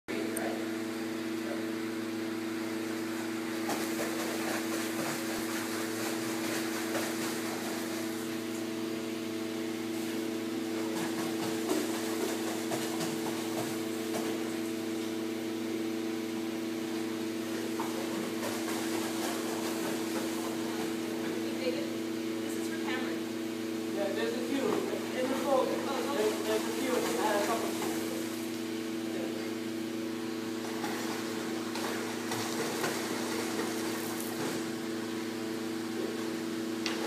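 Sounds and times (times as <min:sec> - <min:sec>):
steady machine hum: 0:00.1 - 0:37.0.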